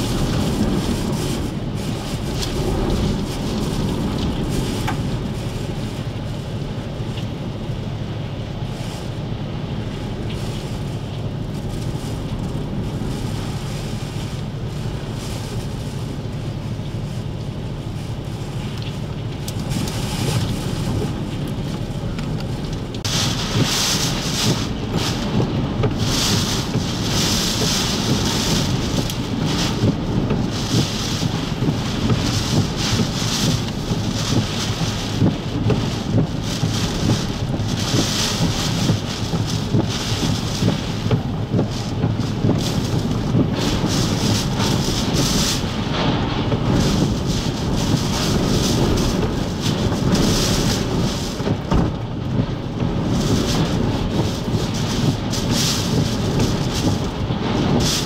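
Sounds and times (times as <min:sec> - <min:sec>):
driving rain: 0:00.0 - 0:58.0
strong gusting wind: 0:00.0 - 0:58.0.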